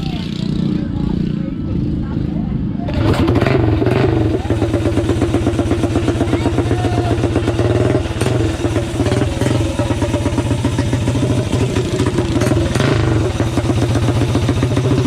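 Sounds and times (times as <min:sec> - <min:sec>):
mini bike engine running: 0:02.9 - 0:15.0.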